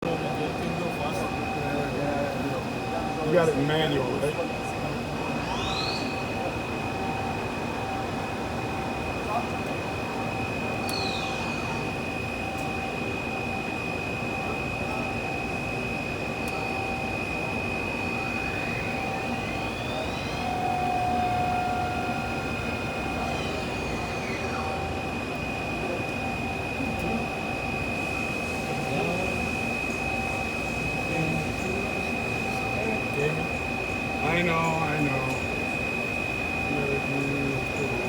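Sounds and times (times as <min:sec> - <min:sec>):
machine noise: 0:00.1 - 0:38.0
machining spindle whine: 0:00.1 - 0:38.0.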